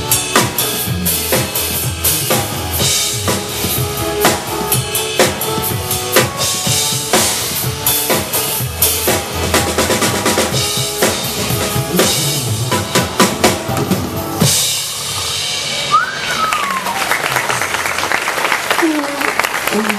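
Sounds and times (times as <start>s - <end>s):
drum kit playing: 0.0s - 18.1s
backing track music: 0.0s - 18.7s.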